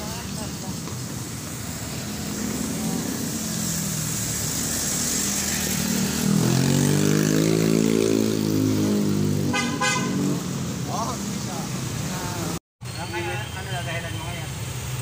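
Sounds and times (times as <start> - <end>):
street traffic: 0.0 - 15.0
vehicle engine passing close: 0.1 - 12.6.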